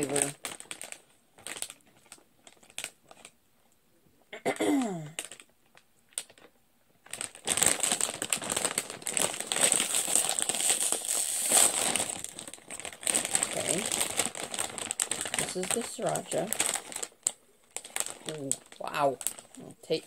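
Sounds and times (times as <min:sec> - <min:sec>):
chip bag crinkling: 0:00.0 - 0:03.4, 0:05.2 - 0:20.0.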